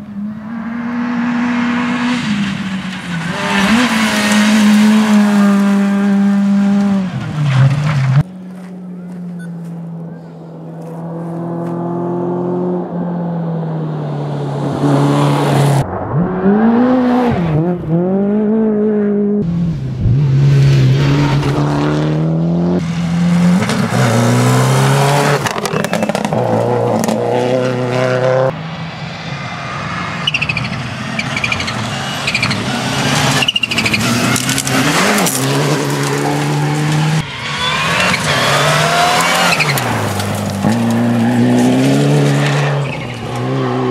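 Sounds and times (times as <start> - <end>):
loose gravel and tyre noise: 0.0 - 18.6, 19.5 - 43.9
rally car engines revving: 0.0 - 43.9.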